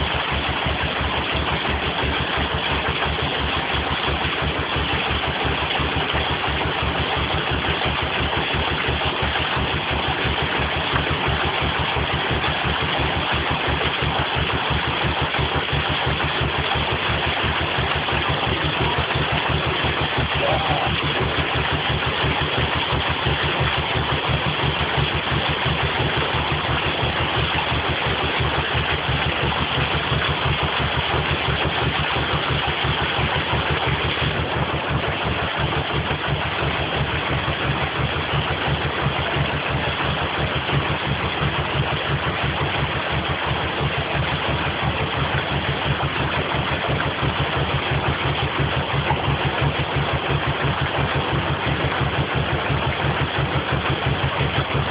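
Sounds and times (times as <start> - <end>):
boat engine idling: 0.0 - 54.9
water rushing through lock: 0.0 - 54.9.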